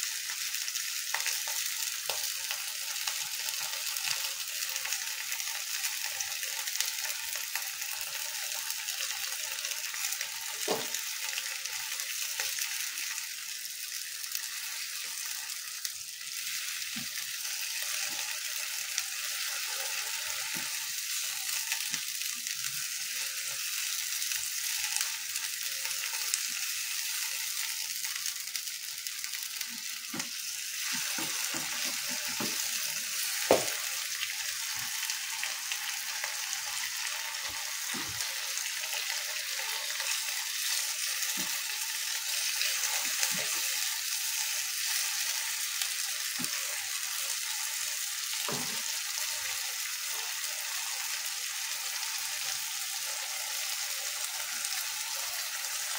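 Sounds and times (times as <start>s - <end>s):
food sizzling in a wok: 0.0s - 55.9s.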